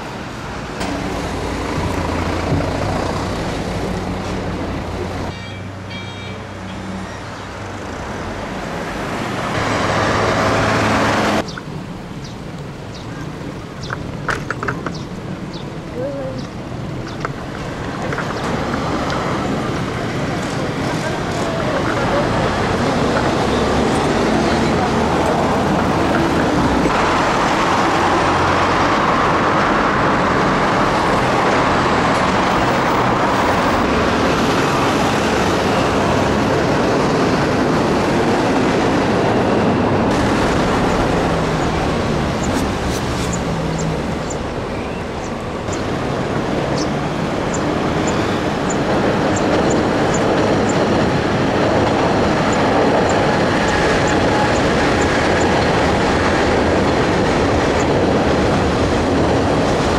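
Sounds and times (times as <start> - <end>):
street traffic noise: 0.0 - 59.9
train on elevated line: 0.0 - 59.9.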